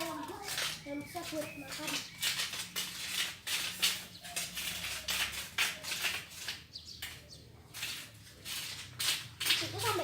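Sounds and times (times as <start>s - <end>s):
tool scraping stony soil: 0.0s - 10.0s.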